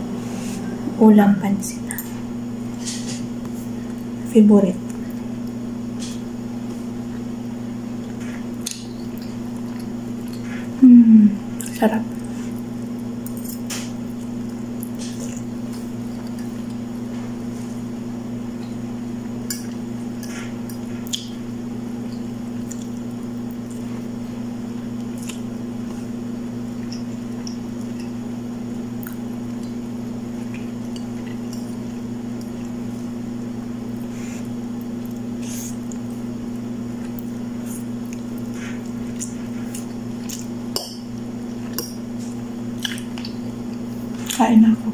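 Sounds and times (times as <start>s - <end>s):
steady low hum: 0.0s - 44.9s
soft chewing: 4.8s - 10.8s, 11.4s - 44.5s.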